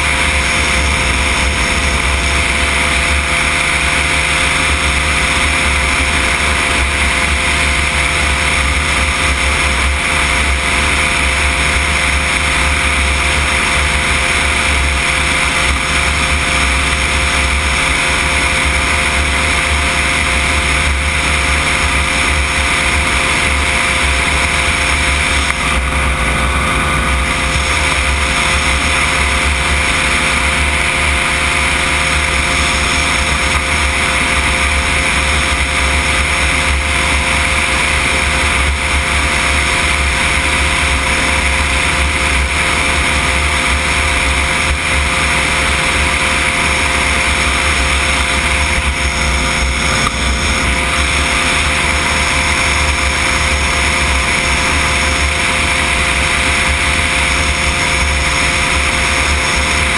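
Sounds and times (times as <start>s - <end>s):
microlight engine and propeller droning: 0.0s - 59.9s.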